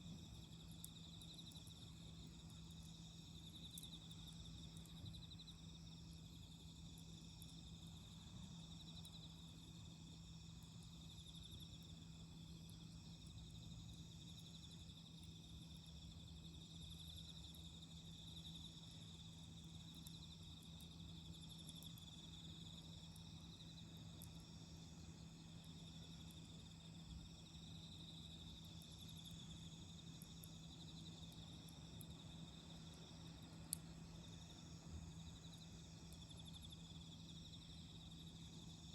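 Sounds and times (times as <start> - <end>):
crickets trilling: 0.1 - 38.9.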